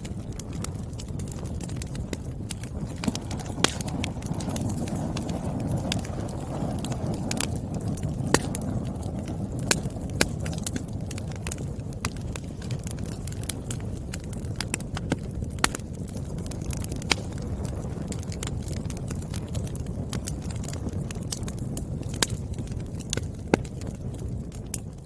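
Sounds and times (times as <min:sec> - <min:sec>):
fire rushing: 0:00.0 - 0:25.0
firewood popping and snapping: 0:00.0 - 0:25.0.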